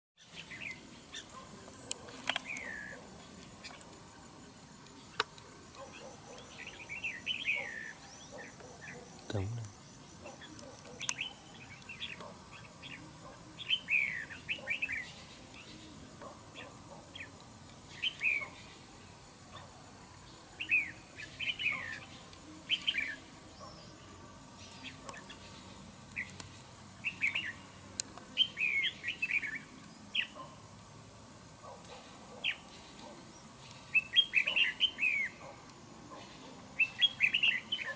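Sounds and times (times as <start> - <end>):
birds chirping and singing: 0.2 - 30.6, 31.6 - 37.9.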